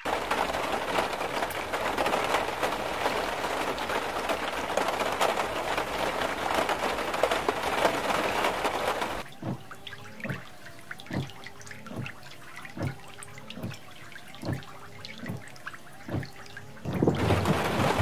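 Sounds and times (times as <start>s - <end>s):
heavy rain rushing: 0.0s - 18.0s
raindrops tapping surfaces: 0.0s - 18.0s.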